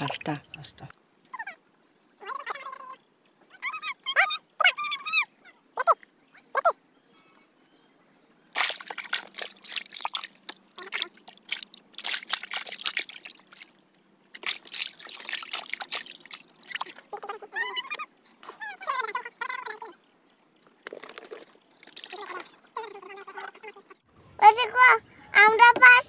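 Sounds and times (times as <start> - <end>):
water trickling and splashing: 0.0 - 24.1.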